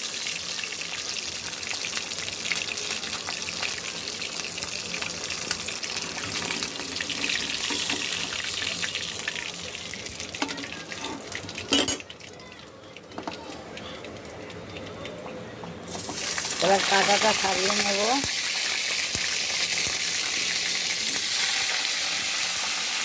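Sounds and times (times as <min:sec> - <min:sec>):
fish sizzling in oil: 0:00.0 - 0:12.2, 0:15.9 - 0:23.0.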